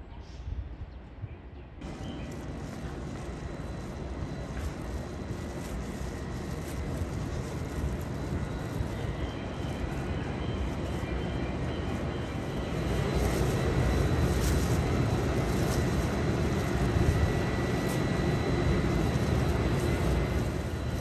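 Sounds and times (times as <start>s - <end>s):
electric train equipment humming: 1.8s - 21.0s
faint high whine: 1.8s - 21.0s.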